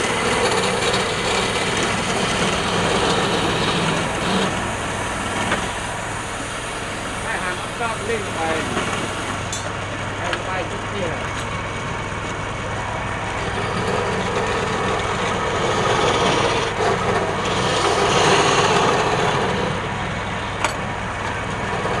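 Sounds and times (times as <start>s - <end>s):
tool scraping spinning wood: 0.0s - 19.9s
wood lathe motor hum: 0.0s - 22.0s.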